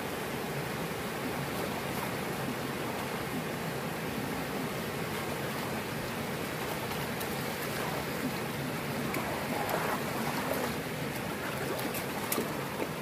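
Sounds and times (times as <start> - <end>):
shallow water rushing: 0.0 - 13.0.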